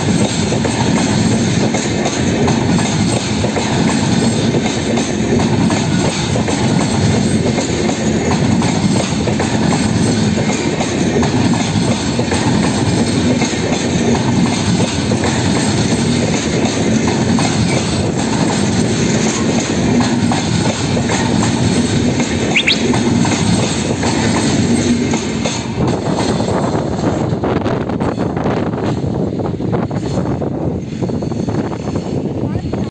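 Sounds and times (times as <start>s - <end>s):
clicks and clatter of train: 0.0s - 32.9s
train wheels rumbling on track: 0.0s - 32.9s.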